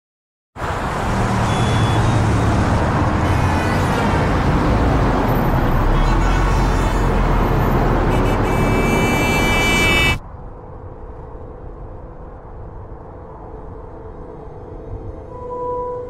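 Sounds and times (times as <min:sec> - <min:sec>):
freeway traffic rumble: 0:00.6 - 0:15.1.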